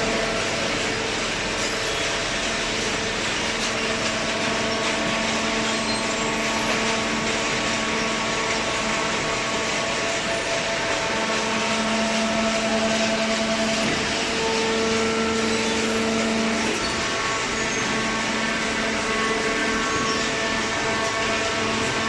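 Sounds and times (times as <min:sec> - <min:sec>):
baler machinery humming: 0:00.0 - 0:22.0.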